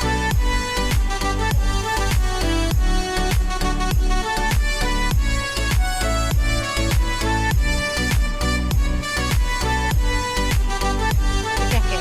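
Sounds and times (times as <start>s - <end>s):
deep drum beat: 0.3s - 12.0s.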